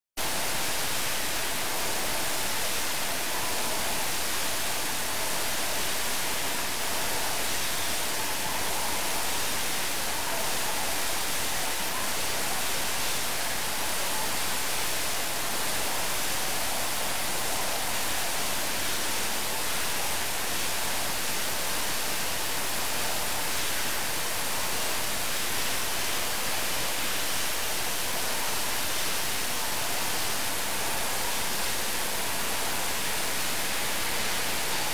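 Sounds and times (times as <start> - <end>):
steady even hiss: 0.2 - 34.9.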